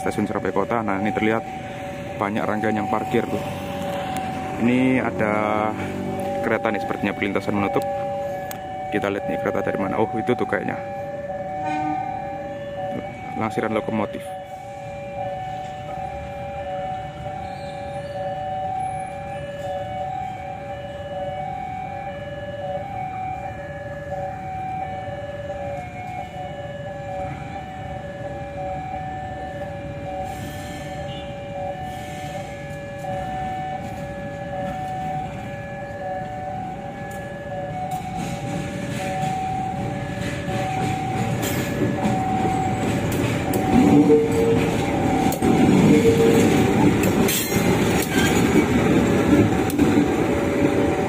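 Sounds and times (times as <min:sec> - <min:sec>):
diesel locomotive passing: 0:00.0 - 0:51.0
two-tone level crossing alarm: 0:00.0 - 0:51.0.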